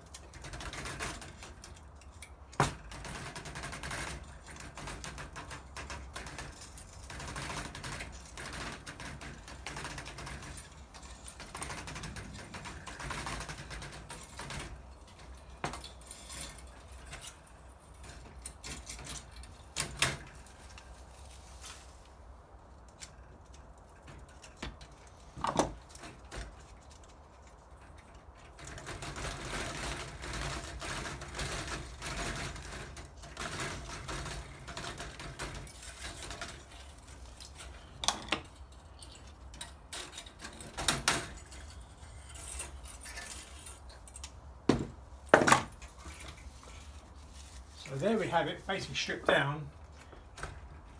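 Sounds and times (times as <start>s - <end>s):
tools and metal parts rattling: 0.0s - 22.2s, 22.9s - 49.0s.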